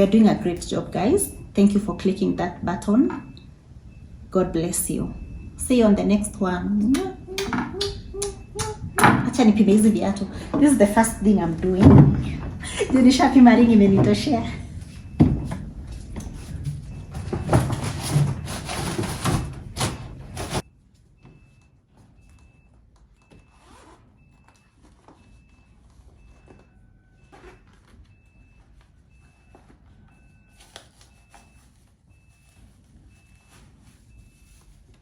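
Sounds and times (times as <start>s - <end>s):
vehicle reversing alarm beeping: 0.0s - 35.0s.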